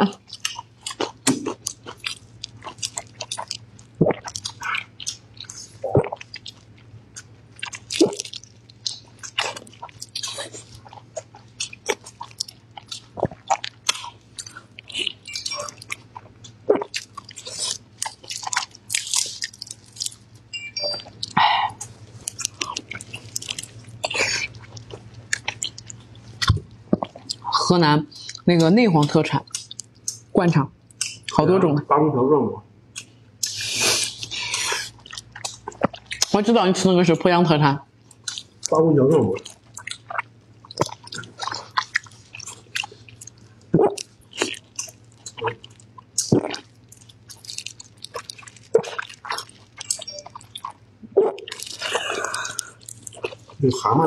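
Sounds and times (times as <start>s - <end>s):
wet chewing and lip-smacking: 0.0s - 31.4s, 32.9s - 36.5s, 38.0s - 53.6s.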